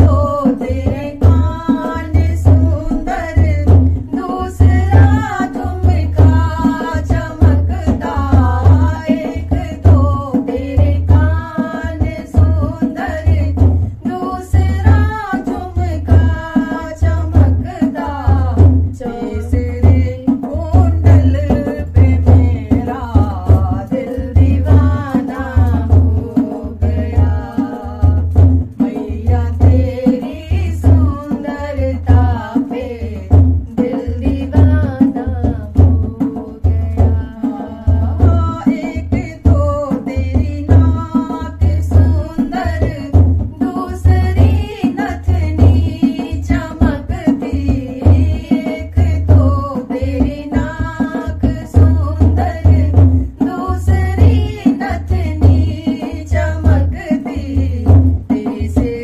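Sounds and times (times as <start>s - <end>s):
hand drum beat: 0.0s - 59.0s
women singing devotional song: 0.0s - 59.0s.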